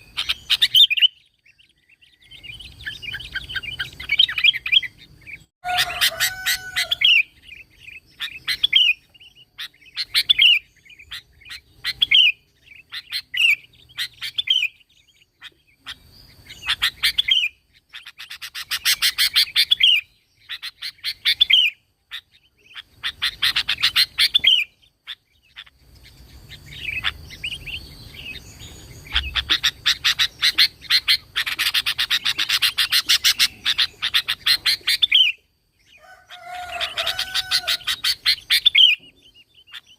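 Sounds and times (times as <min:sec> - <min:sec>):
bird rapid chattering: 0:00.0 - 0:01.7, 0:02.3 - 0:35.4, 0:36.3 - 0:39.9.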